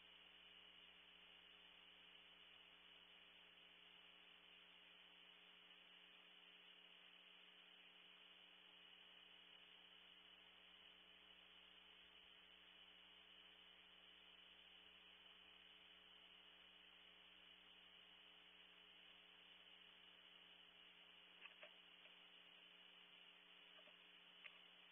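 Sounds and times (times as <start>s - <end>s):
low electrical hum with hiss: 0.0s - 24.9s.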